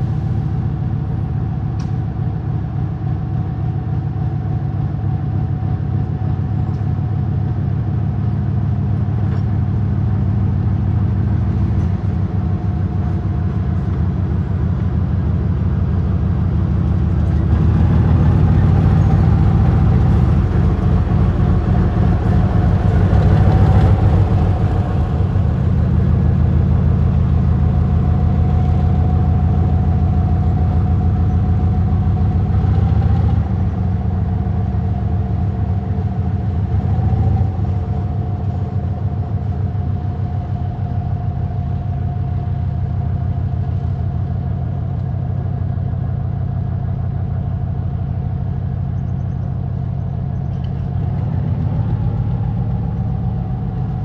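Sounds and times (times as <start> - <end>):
diesel engine throbbing: 0.0 - 54.0
steady engine whine: 0.0 - 54.0.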